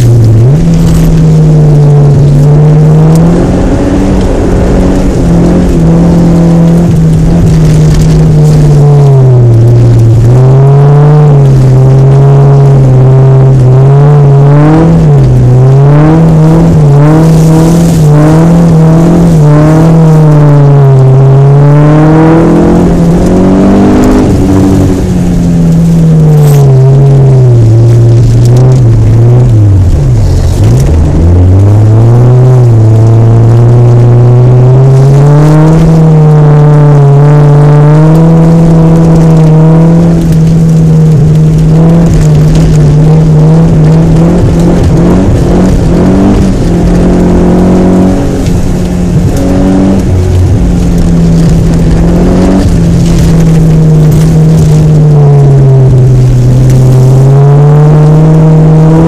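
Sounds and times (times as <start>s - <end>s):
car engine revving hard: 0.0s - 59.0s.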